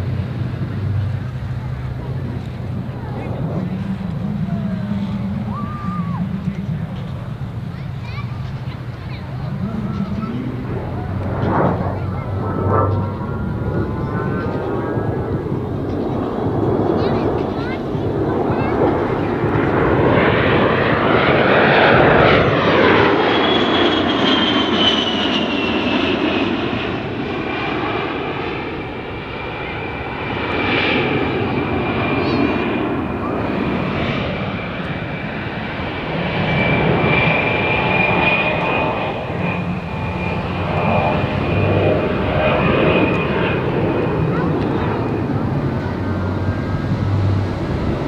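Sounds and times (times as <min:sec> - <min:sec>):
high whistling jet whine: 0:00.0 - 0:48.0
jet engine roar: 0:00.0 - 0:48.0.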